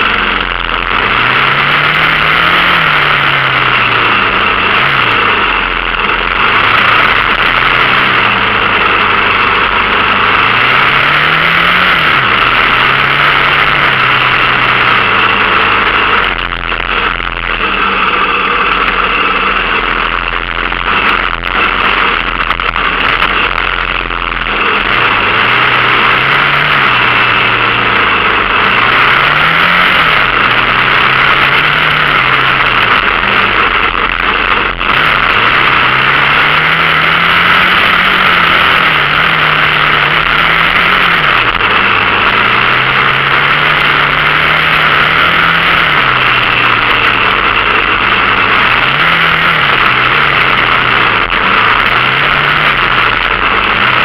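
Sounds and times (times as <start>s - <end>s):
dirt bike engine revving: 0.0s - 54.0s
loud rushing noise: 0.0s - 54.0s.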